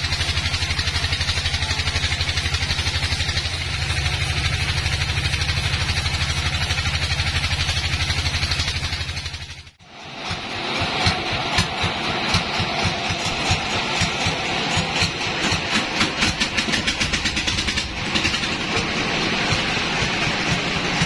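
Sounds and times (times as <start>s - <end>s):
rapid ticking clatter: 0.0s - 21.0s
sawmill motor throbbing: 0.0s - 21.0s.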